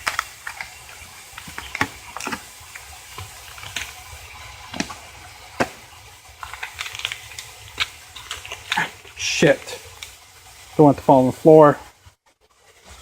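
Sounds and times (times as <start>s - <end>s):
water rushing into washer tub: 0.0s - 13.0s.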